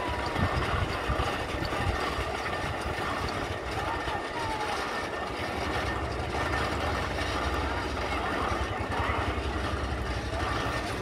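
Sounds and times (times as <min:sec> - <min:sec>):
faint distant voices: 0:00.0 - 0:11.0
low engine rumble: 0:00.0 - 0:11.0.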